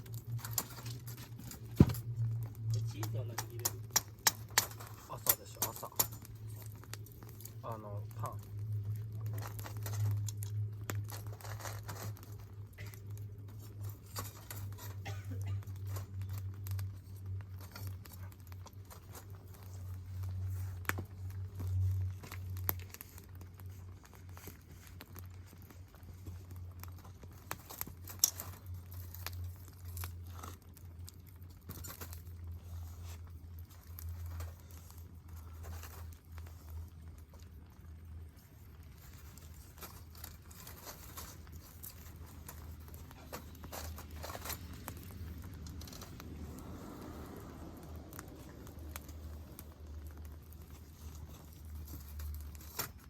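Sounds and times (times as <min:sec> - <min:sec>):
campfire crackling: 0:00.0 - 0:53.0
low hum: 0:00.0 - 0:53.0.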